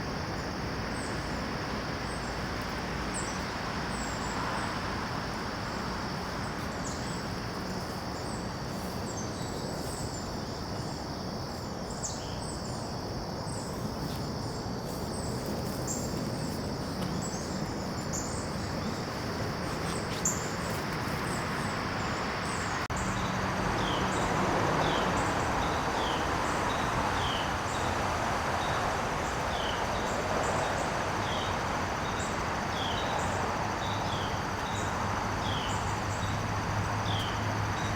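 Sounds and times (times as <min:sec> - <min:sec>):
high insect drone: 0:00.0 - 0:37.9.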